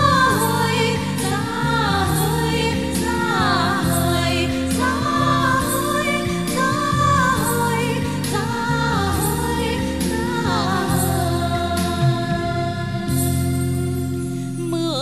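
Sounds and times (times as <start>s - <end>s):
sustained accompaniment: 0.0s - 14.8s
melody with vibrato: 0.0s - 15.0s.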